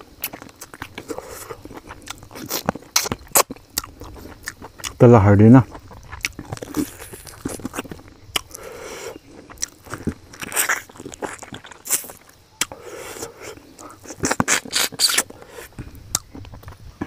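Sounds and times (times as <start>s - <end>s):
man chewing with lip smacks: 0.0s - 5.0s, 5.6s - 17.0s.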